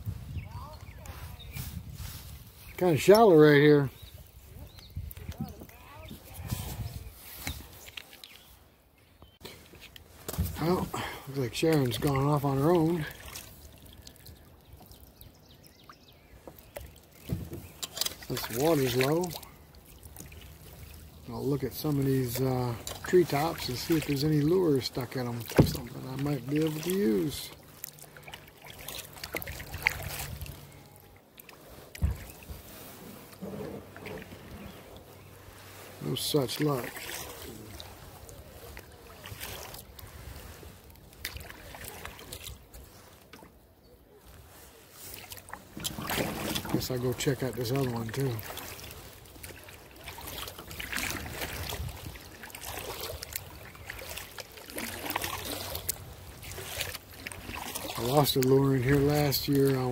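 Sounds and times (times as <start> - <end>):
paddle splashing water: 0.0 - 59.9.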